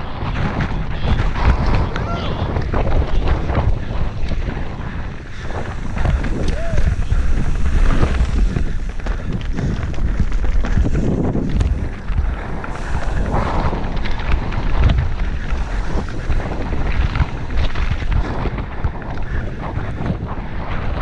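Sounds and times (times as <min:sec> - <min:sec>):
low rumble: 0:00.0 - 0:19.9
wind buffeting microphone: 0:00.0 - 0:21.0.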